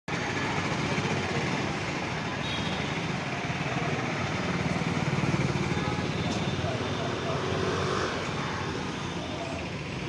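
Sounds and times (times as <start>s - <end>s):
road traffic noise: 0.1s - 10.0s.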